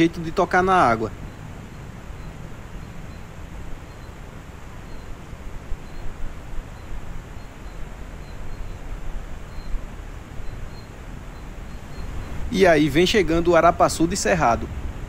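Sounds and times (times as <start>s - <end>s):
faint high chirps: 0.0s - 13.4s
outdoor background hiss: 0.0s - 15.0s.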